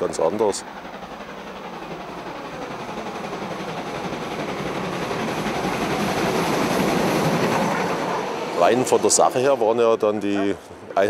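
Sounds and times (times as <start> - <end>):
steam locomotive approaching: 0.0 - 11.0.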